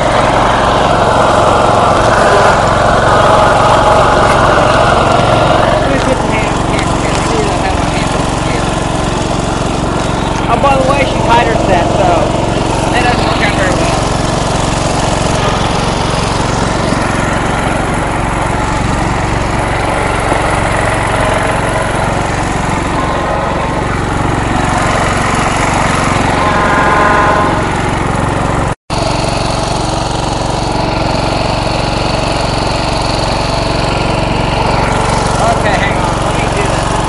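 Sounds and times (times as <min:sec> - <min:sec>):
riding lawn mower engine running: 0:00.0 - 0:37.0.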